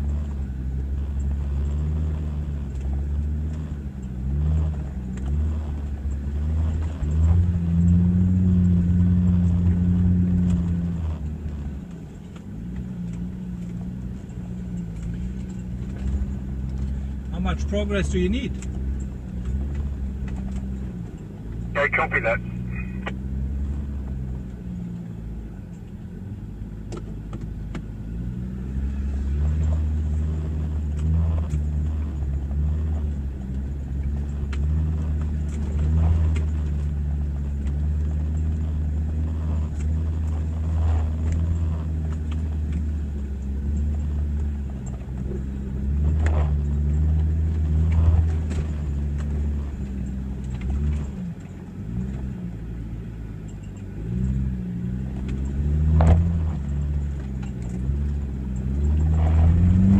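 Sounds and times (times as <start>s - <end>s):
vehicle engine climbing in low gear: 0.0s - 59.9s.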